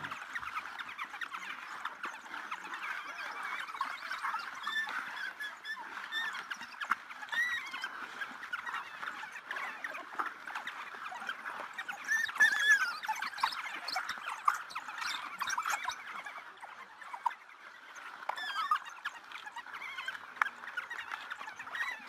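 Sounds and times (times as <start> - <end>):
wild dogs twittering: 0.0 - 22.0.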